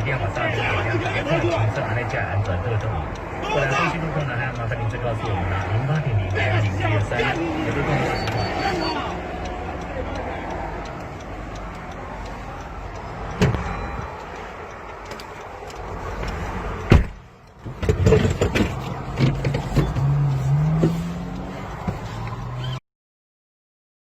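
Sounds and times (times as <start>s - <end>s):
car engine revving: 0.0s - 22.8s
road noise: 0.0s - 22.8s.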